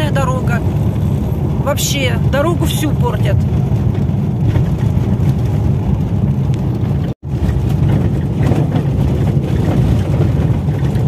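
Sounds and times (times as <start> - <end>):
car engine rumble: 0.0 - 11.0
car tyres on gravel road: 0.0 - 11.0.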